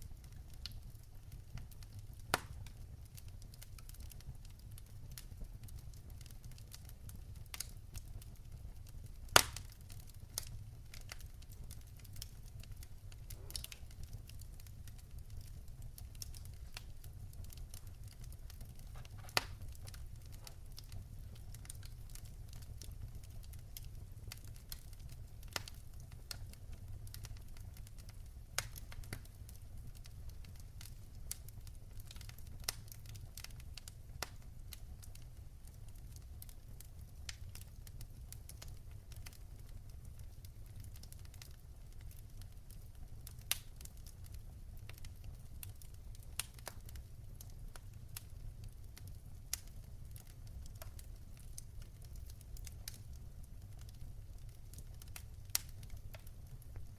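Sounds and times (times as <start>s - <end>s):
wood fire crackling: 0.0s - 56.9s
pops and snaps of fire: 0.3s - 2.8s, 9.3s - 35.3s, 36.0s - 48.4s, 49.0s - 56.9s.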